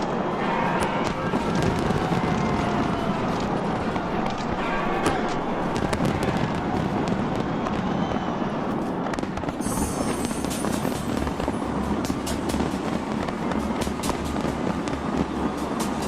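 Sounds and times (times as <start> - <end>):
fine crackling of fireworks: 0.0 - 16.0
fireworks bangs and cracks: 0.0 - 16.0
fireworks rumble: 0.0 - 16.0.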